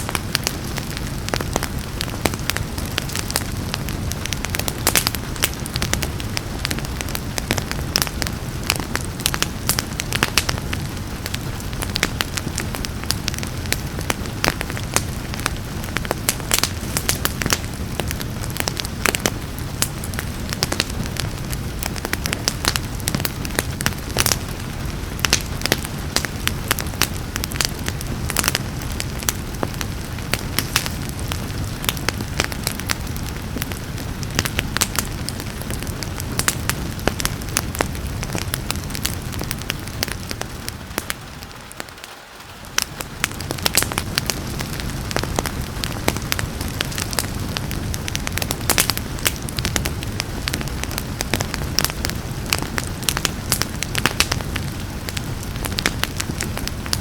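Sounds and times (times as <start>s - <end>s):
rain hissing: 0.0s - 57.0s
wood fire crackling and popping: 0.0s - 57.0s.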